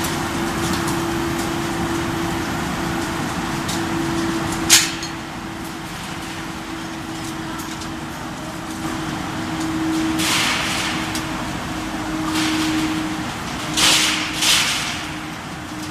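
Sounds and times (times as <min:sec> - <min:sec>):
factory machinery hum: 0:00.0 - 0:15.9.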